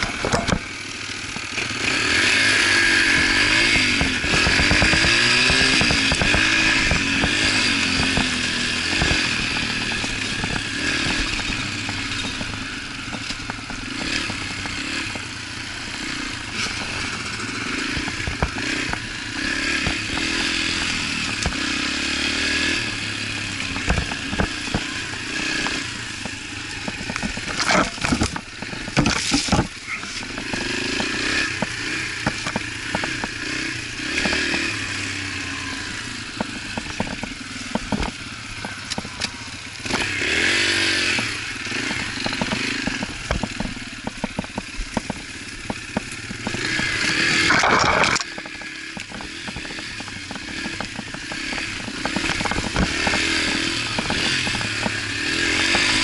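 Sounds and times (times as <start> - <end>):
dirt bike engine revving: 0.0 - 56.0
sharp knocks of bike bouncing: 3.1 - 22.0, 22.6 - 34.8, 36.3 - 40.4, 41.0 - 56.0.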